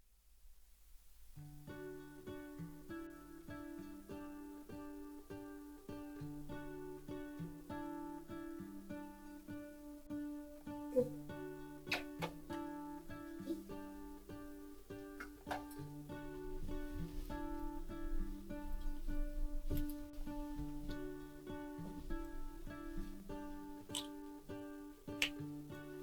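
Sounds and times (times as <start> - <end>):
acoustic guitar picked melody: 0.0 - 26.0.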